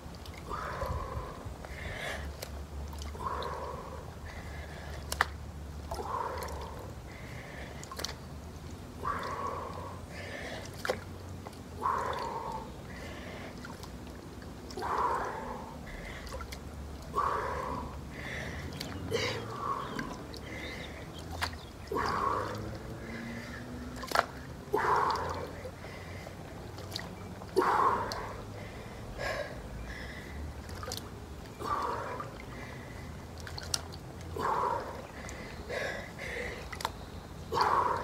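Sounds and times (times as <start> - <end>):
water drips: 0.0 - 38.0
water sloshing in a pool: 0.0 - 38.0.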